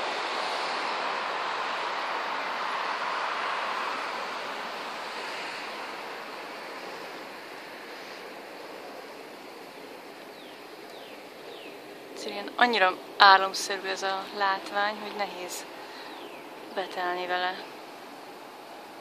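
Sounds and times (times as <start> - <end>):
street traffic rushing: 0.0 - 19.0.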